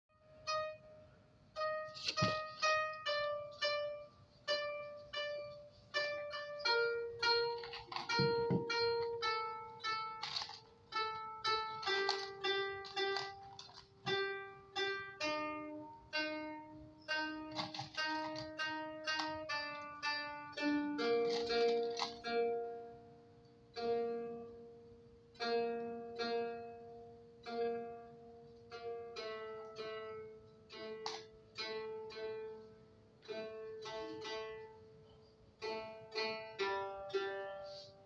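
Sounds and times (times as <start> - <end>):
koto plucked melody: 0.1 - 38.0.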